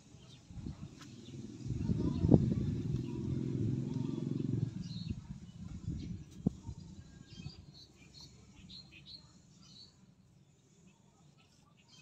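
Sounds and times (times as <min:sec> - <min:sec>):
faint bird chirps: 0:00.1 - 0:12.0.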